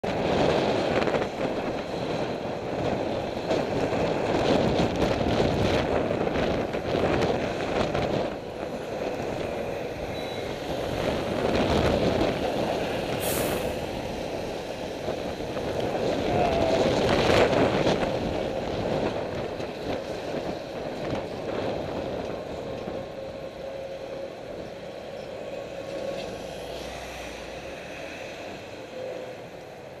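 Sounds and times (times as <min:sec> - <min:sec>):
road noise: 0:00.0 - 0:30.0
truck passing close: 0:00.0 - 0:30.0
vehicles passing: 0:00.0 - 0:30.0
wind noise on camera: 0:00.0 - 0:30.0.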